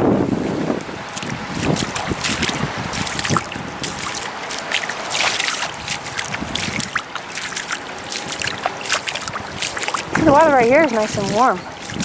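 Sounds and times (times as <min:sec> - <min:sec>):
wind buffeting microphone: 0:00.0 - 0:12.0
seawater splashing at shoreline: 0:00.3 - 0:12.0.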